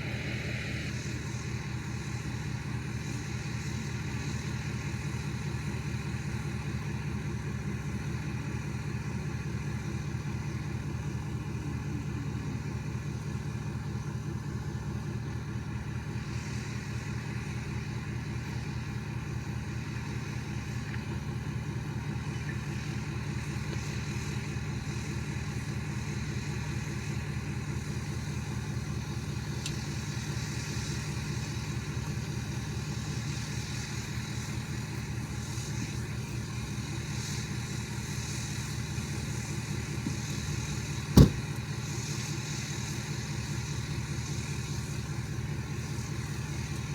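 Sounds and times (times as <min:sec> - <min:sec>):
truck engine idling: 0:00.0 - 0:46.9.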